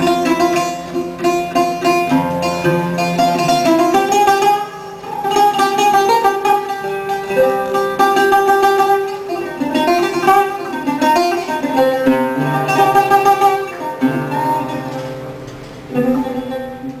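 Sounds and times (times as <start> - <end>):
plucked string instrument music: 0.0 - 17.0.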